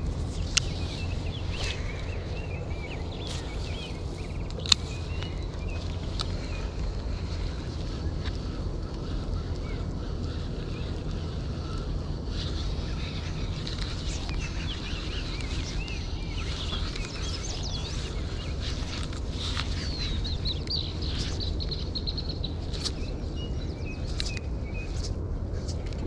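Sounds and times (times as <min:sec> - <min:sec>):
small birds chirping: 0:00.0 - 0:26.0
wind rumble on microphone: 0:00.0 - 0:26.0.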